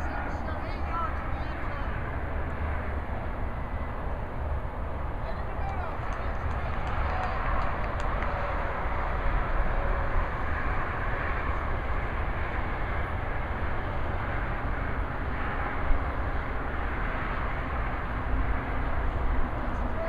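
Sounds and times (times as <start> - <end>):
passing traffic rumble: 0.0 - 20.0.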